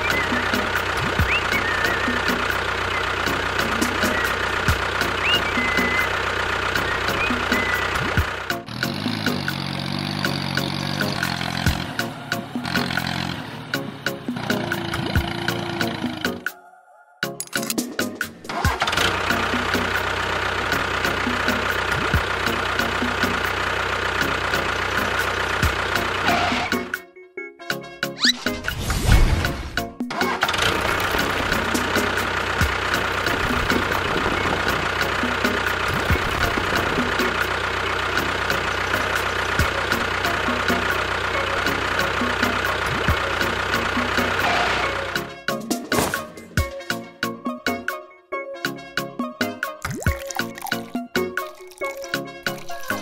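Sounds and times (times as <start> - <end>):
tractor engine idling: 0.0 - 16.4, 17.4 - 27.0, 29.7 - 47.1.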